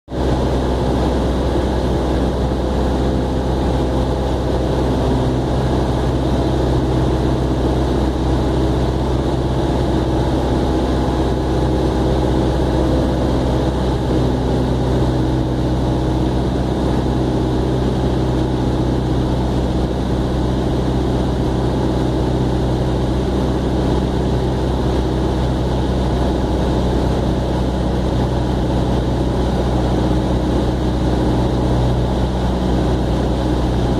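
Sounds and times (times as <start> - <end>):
aircraft engine drone: 0.1 - 33.9.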